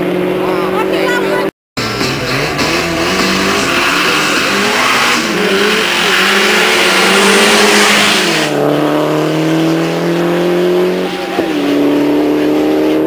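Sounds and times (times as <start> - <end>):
racing car engines revving: 0.0 - 13.0.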